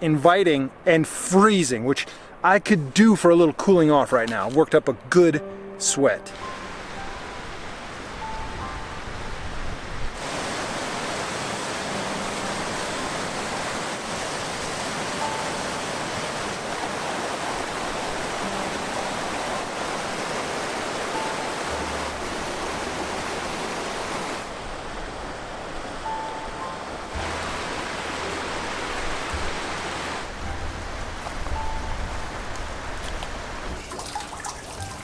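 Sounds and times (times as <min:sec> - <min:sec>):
stream rushing over rocks: 0:00.0 - 0:35.0.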